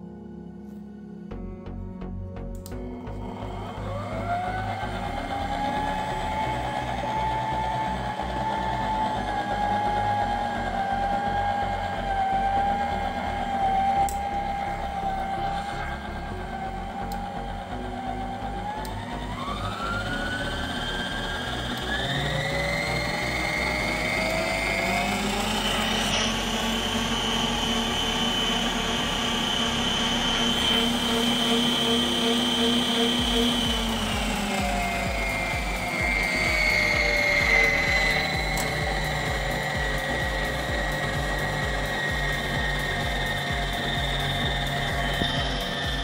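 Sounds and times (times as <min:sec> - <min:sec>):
stand mixer motor whine: 0:02.7 - 0:46.0.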